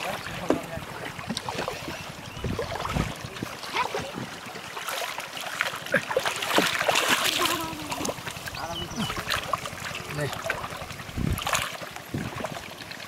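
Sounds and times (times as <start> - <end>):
water gurgling: 0.0 - 13.0
water sloshing and splashing: 0.0 - 13.0.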